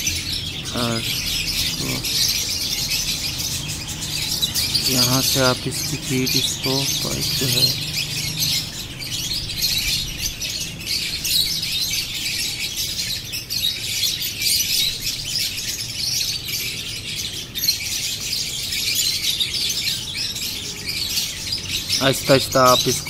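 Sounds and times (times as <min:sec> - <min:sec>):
high-pitched bird chirping: 0:00.0 - 0:23.0.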